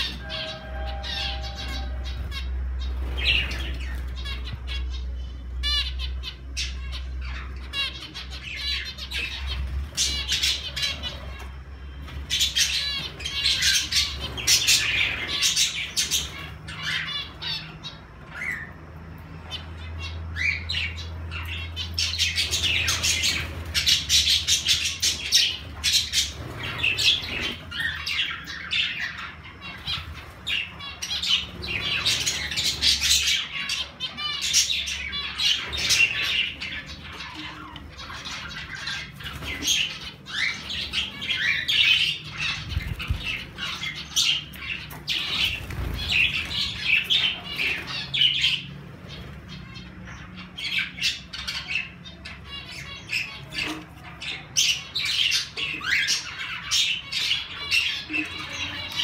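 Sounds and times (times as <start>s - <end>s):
flock of birds calling: 0.0s - 59.0s.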